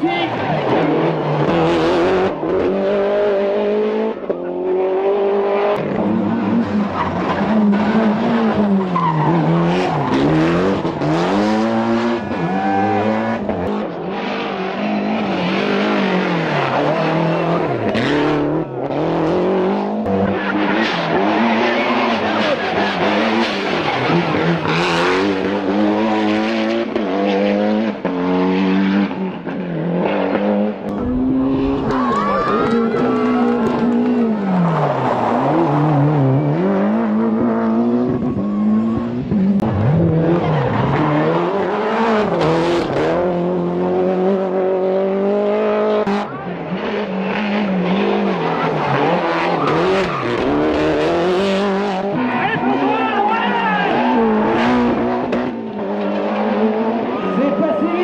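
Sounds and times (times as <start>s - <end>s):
rally car engines revving hard: 0.0s - 58.0s.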